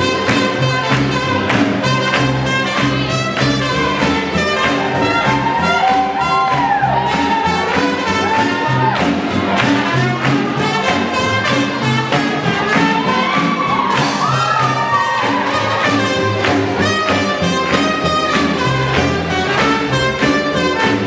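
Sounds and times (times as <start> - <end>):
brass lead bending notes: 0.0 - 21.0
swing jazz band playing: 0.0 - 21.0.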